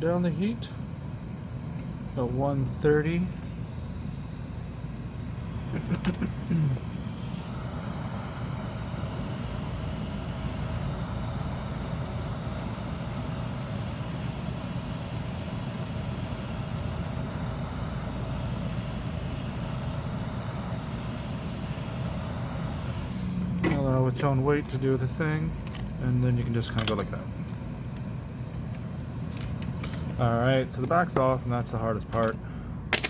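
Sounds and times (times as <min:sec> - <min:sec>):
faint steady hum: 0:00.0 - 0:33.0
hot air station blowing: 0:00.0 - 0:33.0.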